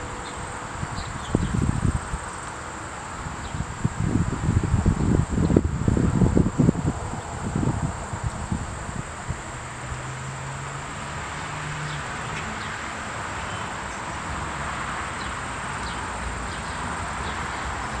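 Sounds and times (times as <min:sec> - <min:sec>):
high insect trill: 0:00.0 - 0:18.0.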